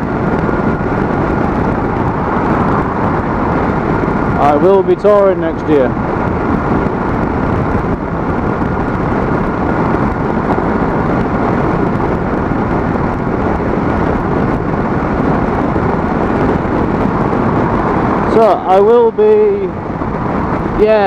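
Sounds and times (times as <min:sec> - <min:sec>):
motorcycle cruising: 0:00.0 - 0:21.0
wind and road noise: 0:00.0 - 0:21.0
wind buffeting microphone: 0:00.0 - 0:21.0.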